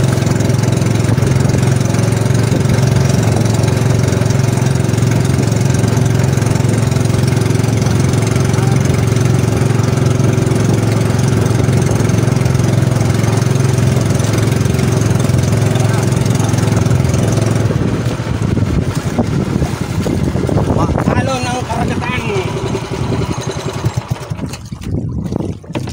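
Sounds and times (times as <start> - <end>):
boat engine humming: 0.0 - 25.9
water splashing along hull: 0.0 - 25.9.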